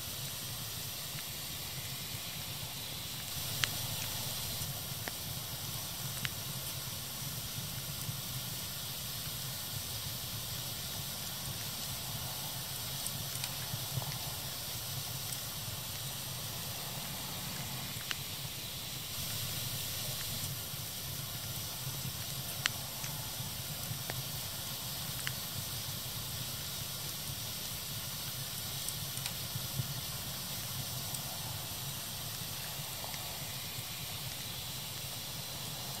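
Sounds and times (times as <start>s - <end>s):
wood fire hissing and crackling: 0.0s - 36.0s.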